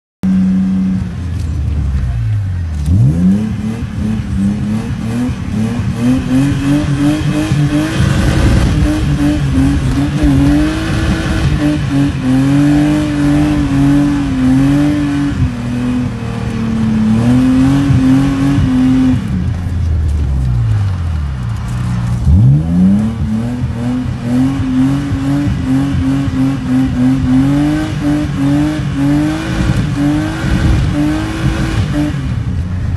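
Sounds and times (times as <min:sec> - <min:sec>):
car engine revving hard: 0:02.7 - 0:19.7, 0:21.6 - 0:32.9.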